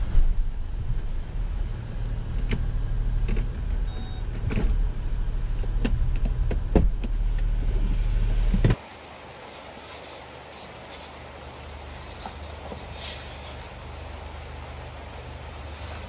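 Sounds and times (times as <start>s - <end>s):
engine low rumble inside vehicle: 0.0s - 9.2s, 10.9s - 16.0s
quiet steady hiss: 0.0s - 16.0s.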